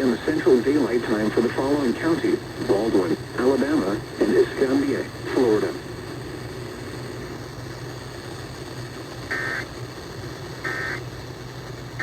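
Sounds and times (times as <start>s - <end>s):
broadcast hiss: 0.0s - 12.0s.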